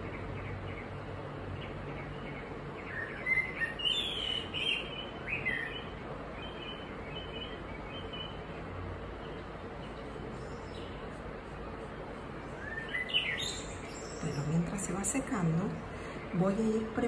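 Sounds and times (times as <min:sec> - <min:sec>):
bird chirping: 0:00.0 - 0:17.0
steady background hiss: 0:00.0 - 0:17.0.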